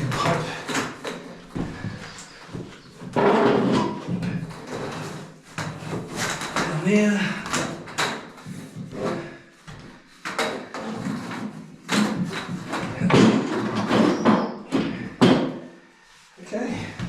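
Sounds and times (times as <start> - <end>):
shower base knocking and scraping: 0.0 - 15.7.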